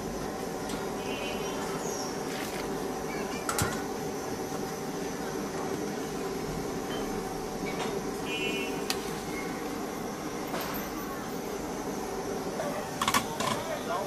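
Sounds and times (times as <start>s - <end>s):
background hum of food stall: 0.0s - 14.0s
pot boiling: 0.0s - 14.0s.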